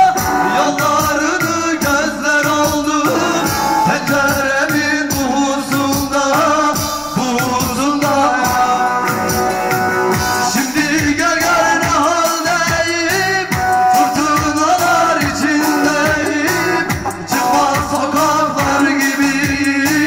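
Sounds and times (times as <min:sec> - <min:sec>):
man singing into microphone: 0:00.0 - 0:20.0
steady drum beat: 0:00.0 - 0:20.0.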